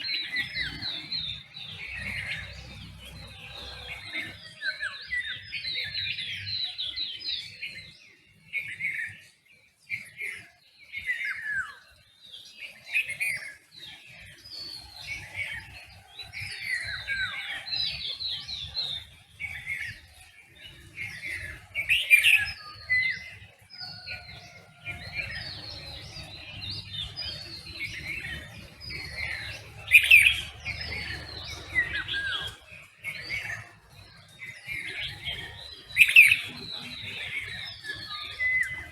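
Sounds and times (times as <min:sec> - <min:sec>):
loud bird calls: 0:00.0 - 0:38.9
songbirds chirping and singing: 0:00.0 - 0:38.9.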